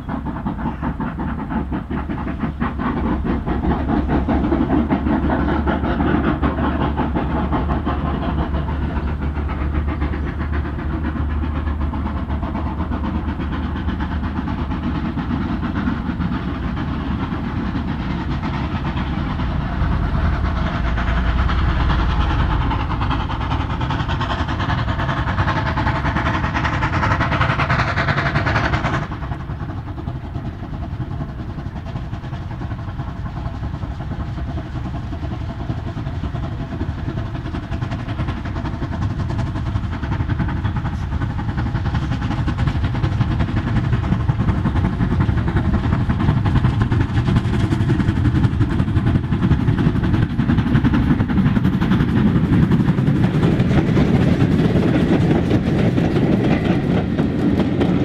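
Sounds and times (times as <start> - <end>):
rail clatter of passing coaches: 0.0 - 58.0
steam locomotives working: 0.0 - 58.0.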